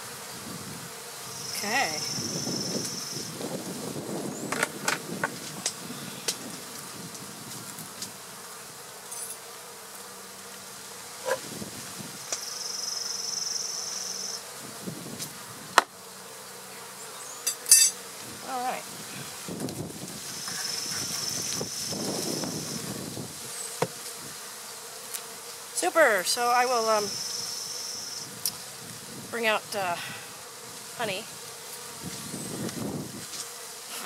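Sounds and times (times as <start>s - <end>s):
bee flying past droning: 0.0s - 34.0s
honey bees buzzing: 0.0s - 34.0s.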